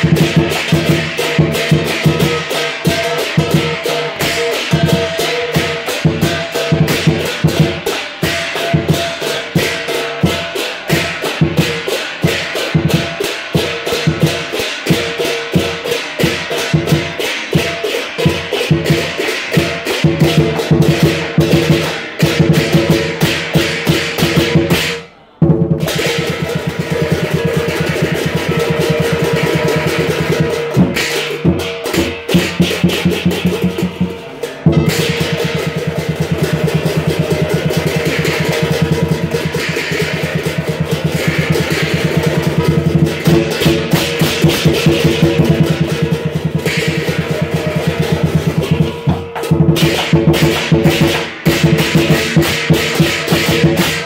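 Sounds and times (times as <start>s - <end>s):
cymbals clashing: 0.0s - 54.0s
drum beaten fast: 0.0s - 54.0s.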